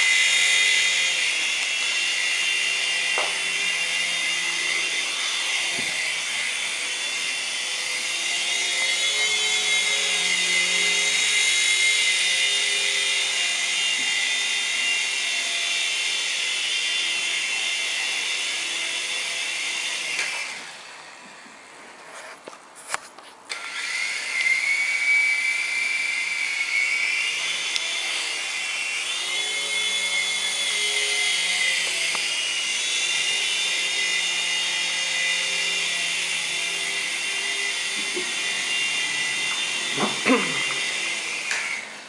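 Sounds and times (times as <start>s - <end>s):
toy helicopter rotors whining: 0.0s - 21.4s, 23.5s - 42.0s.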